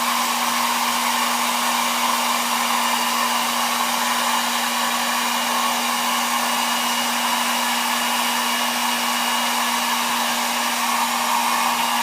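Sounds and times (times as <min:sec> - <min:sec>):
hot-air blower humming: 0:00.0 - 0:12.0.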